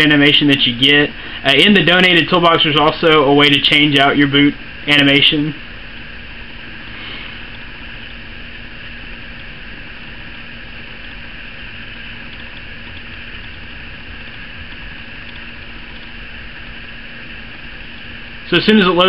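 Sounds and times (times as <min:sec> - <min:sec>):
faint low hum: 0:00.0 - 0:19.0
steady background hiss: 0:00.0 - 0:19.0.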